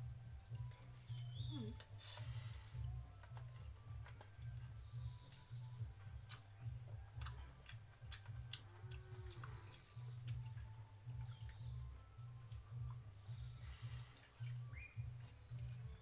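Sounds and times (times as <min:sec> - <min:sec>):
fingers clicking in steel bowls: 0:00.0 - 0:16.0
person chewing: 0:01.6 - 0:16.0.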